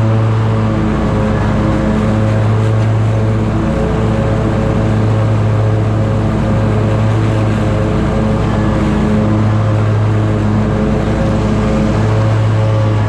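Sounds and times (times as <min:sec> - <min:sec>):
lawn mower running: 0:00.0 - 0:13.0.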